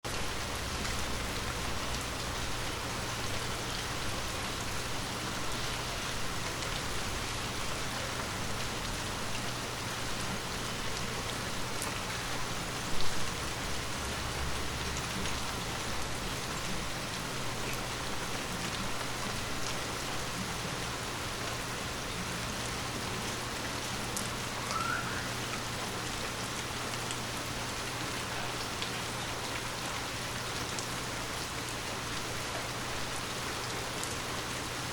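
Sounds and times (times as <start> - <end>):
light rain falling: 0.0 - 34.9.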